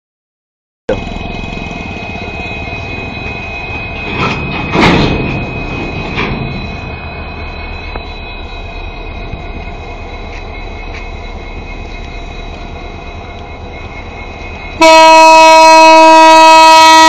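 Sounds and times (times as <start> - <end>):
diesel locomotives idling: 0.9 - 17.0.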